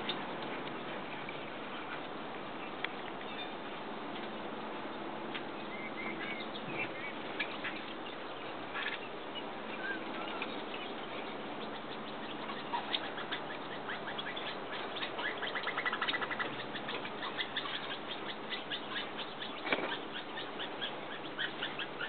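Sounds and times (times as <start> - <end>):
birds tapping at tree bark: 0.0 - 22.0.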